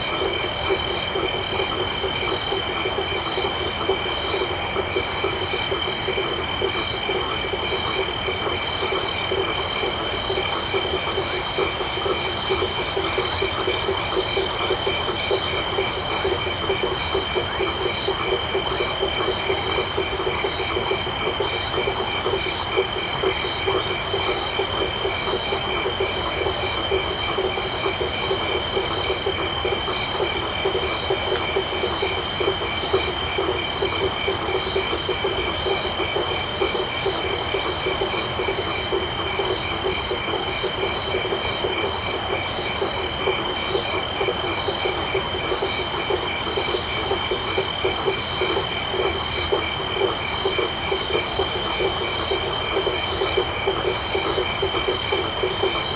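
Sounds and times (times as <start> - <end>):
frogs calling: 0.0 - 55.9
insects trilling: 0.0 - 55.9.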